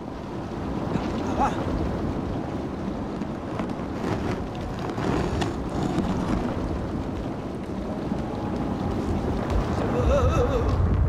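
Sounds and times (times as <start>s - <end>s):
ground rumbling with cracking: 0.0s - 11.0s.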